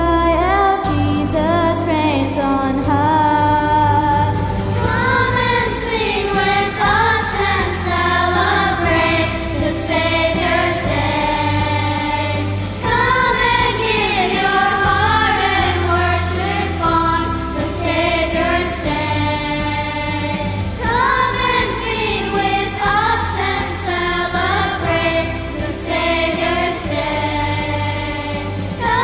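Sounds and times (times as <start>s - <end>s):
instrumental accompaniment: 0.1s - 29.0s
vocal group singing in harmony: 4.5s - 29.0s.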